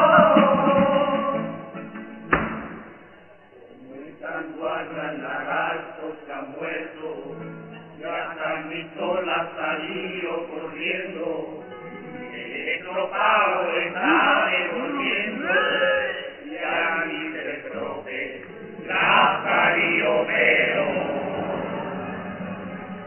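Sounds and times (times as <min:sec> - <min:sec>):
male chorus singing in unison: 0:00.0 - 0:01.8, 0:03.7 - 0:23.0
acoustic guitar: 0:00.0 - 0:23.0.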